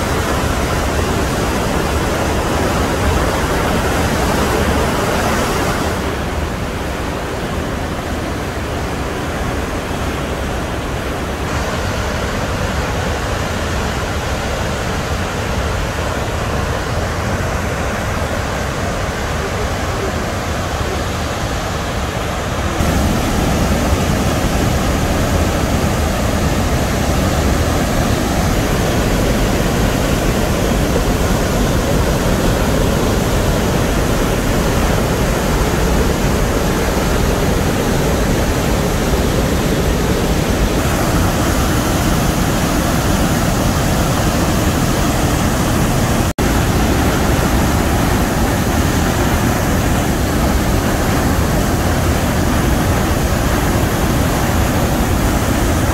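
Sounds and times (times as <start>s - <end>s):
rush of falling water: 0.0s - 55.9s.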